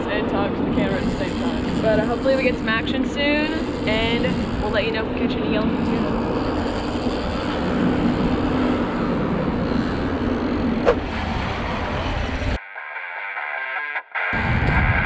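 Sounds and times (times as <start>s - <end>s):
steady low hum: 0.0s - 12.6s
wind buffeting microphone: 0.0s - 12.6s.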